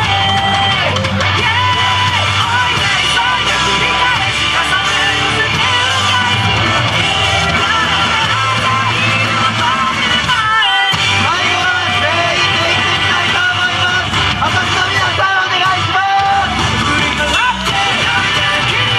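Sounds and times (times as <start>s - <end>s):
person singing: 0.0s - 18.9s
rock guitar: 0.0s - 18.9s
steady bass line: 0.0s - 18.9s.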